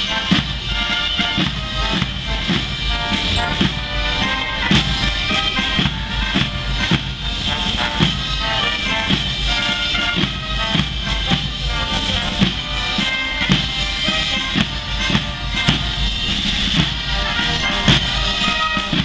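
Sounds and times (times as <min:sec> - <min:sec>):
brass holding notes: 0:00.0 - 0:19.0
steady drum beat: 0:00.0 - 0:19.0.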